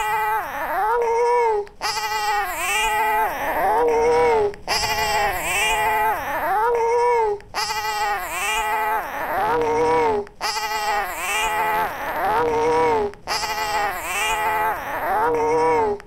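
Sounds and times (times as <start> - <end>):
granular baby crying: 0.0 - 16.0.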